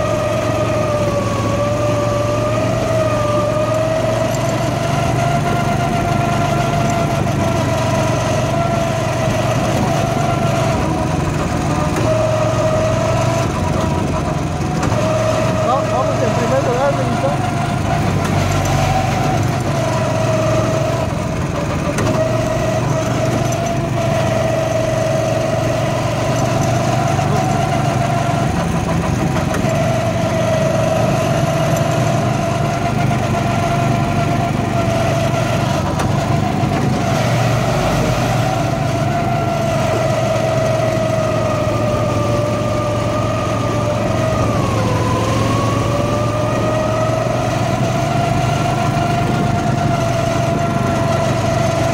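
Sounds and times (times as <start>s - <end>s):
go-kart engine running: 0.0s - 51.9s.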